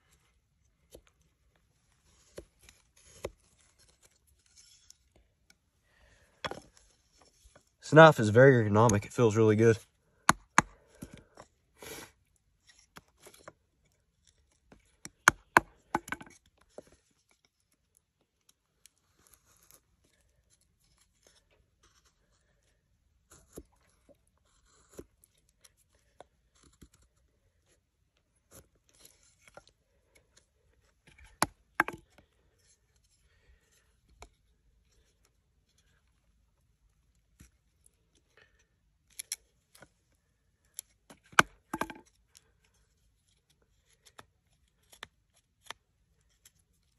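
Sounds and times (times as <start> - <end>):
knife carving wood: 0.6 - 5.6, 9.8 - 40.0, 40.6 - 46.9.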